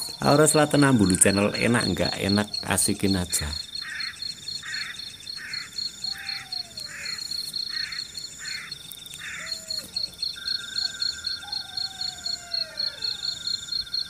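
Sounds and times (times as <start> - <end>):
crickets and insects trilling: 0.0 - 14.0
pulsed insect chirp: 0.0 - 14.0
steady insect buzz: 0.0 - 14.0.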